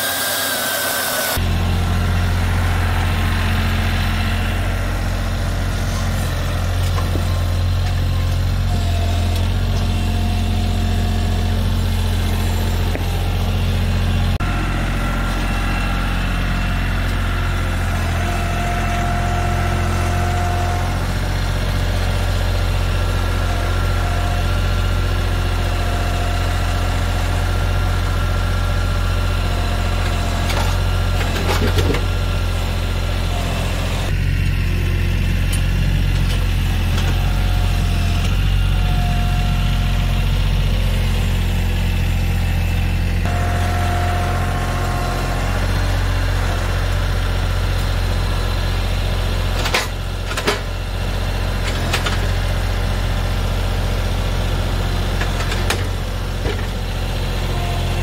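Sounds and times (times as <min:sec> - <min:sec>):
hydraulic whine: 0:00.0 - 0:58.0
tractor diesel engine running: 0:00.0 - 0:58.0.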